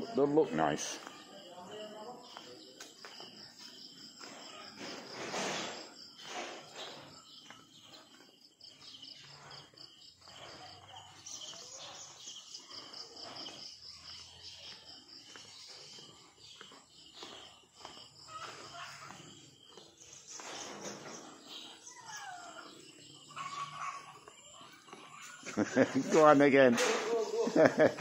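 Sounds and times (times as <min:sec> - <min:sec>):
crickets trilling: 0:00.0 - 0:28.0
footsteps: 0:00.0 - 0:28.0.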